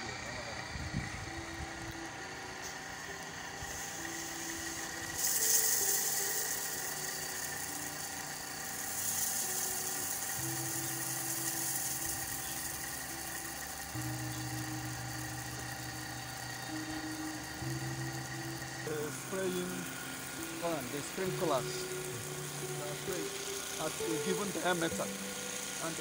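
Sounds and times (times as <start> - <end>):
irrigation rig whine: 0.0 - 26.0
water hissing from sprinkler: 3.6 - 26.0.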